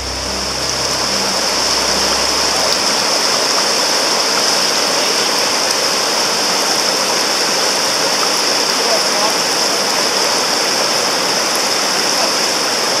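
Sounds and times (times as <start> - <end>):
whitewater rushing over rocks: 0.0 - 13.0.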